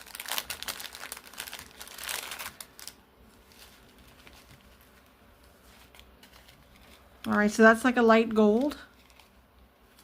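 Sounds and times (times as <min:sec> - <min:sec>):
plastic bags crinkling: 0:00.0 - 0:07.5, 0:08.3 - 0:10.0.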